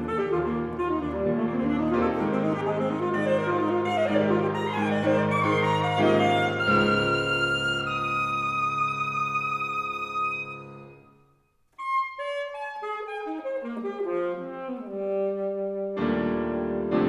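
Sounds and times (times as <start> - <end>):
alto saxophone: 0.0 - 17.0
piano: 0.0 - 17.0.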